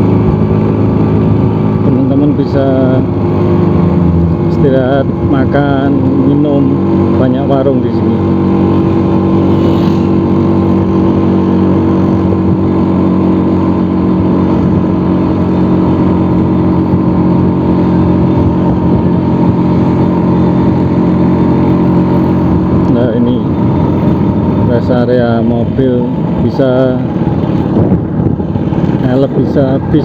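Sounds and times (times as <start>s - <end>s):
scooter engine cruising: 0.0s - 30.0s.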